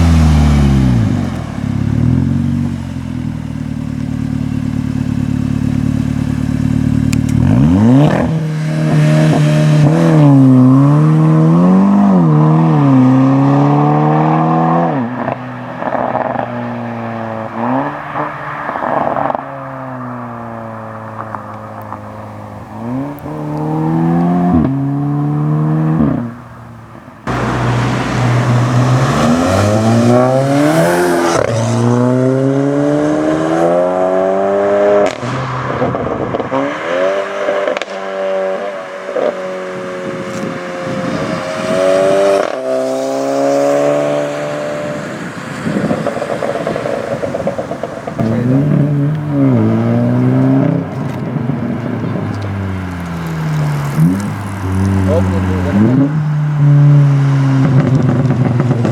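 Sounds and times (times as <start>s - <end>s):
car engines revving: 0.0s - 58.9s.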